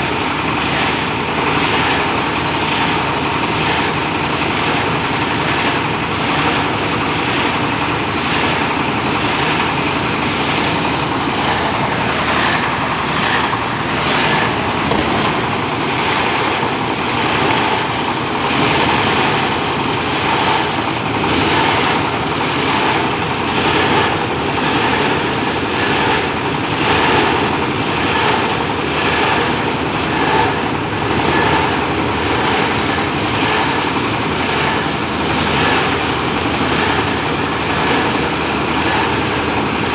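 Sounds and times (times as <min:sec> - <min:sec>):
shredder machine pulsing: 0:00.0 - 0:39.9.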